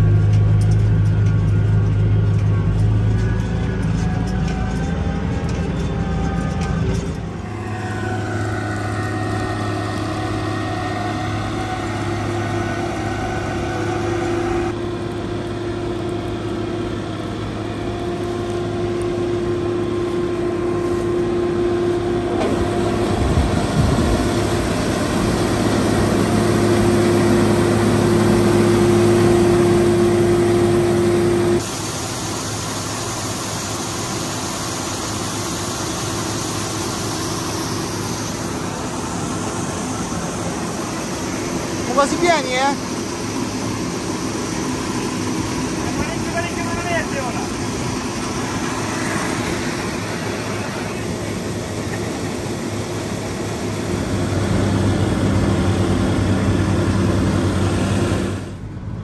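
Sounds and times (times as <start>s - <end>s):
combine harvester running: 0.0s - 59.0s
tractor running: 0.0s - 59.0s
grain pouring hiss: 7.3s - 58.7s.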